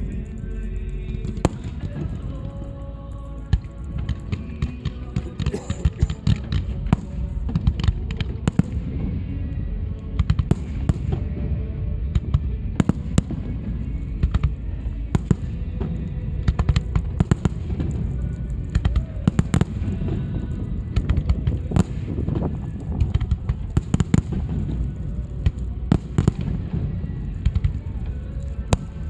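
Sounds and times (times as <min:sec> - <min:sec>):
fireworks bangs and crackles: 0:00.0 - 0:29.0
low rumble: 0:00.0 - 0:29.0
music playing: 0:00.0 - 0:29.0.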